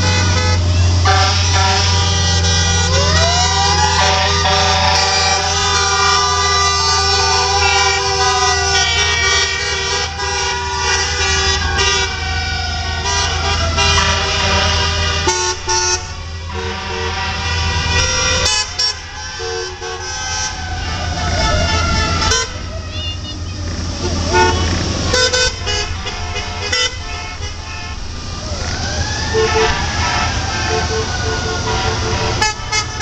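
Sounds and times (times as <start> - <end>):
car horns honking: 0.0 - 33.0.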